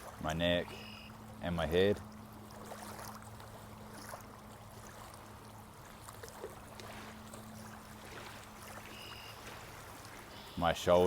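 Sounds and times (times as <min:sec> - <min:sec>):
water drips and splashes: 0:00.0 - 0:11.0
water trickling: 0:00.0 - 0:11.0.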